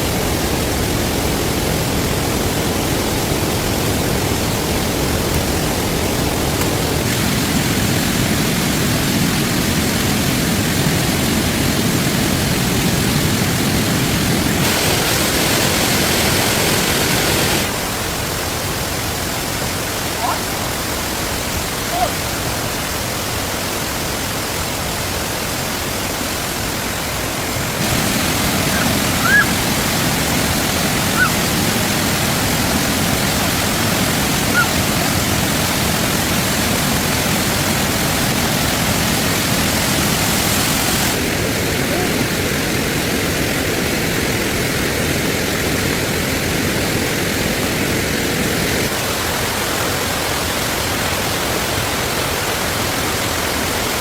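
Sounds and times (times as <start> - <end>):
rain hissing: 0.0 - 26.4, 27.0 - 54.0.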